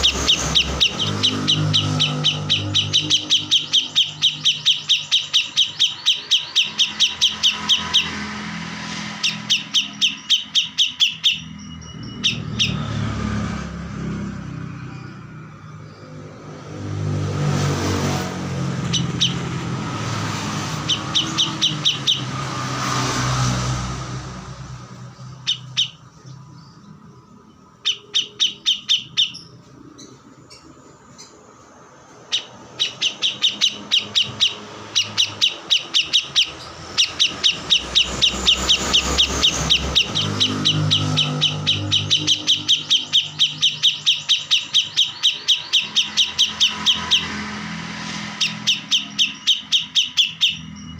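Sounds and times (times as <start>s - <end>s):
bird chirping sharply: 0.0s - 50.9s.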